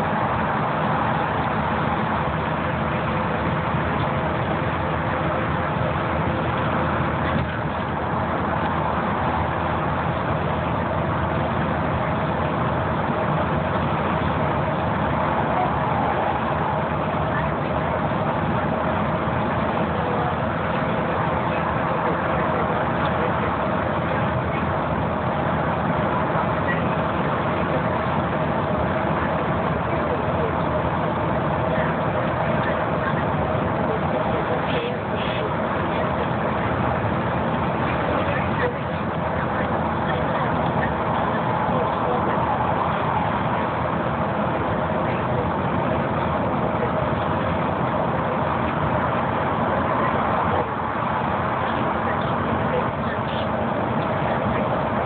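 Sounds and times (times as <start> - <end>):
bus engine and road noise: 0.0 - 55.0
faint steady whine: 0.0 - 55.0.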